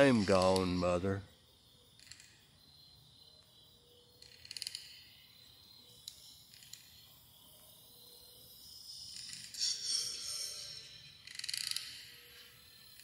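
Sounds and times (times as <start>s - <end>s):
background hiss: 0.0s - 13.0s
crickets chirping: 0.0s - 13.0s.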